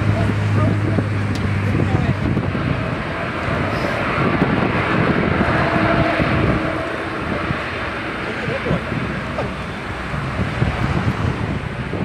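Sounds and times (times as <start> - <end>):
faint engine whine: 0.0 - 12.0
jet engines running: 0.0 - 12.0.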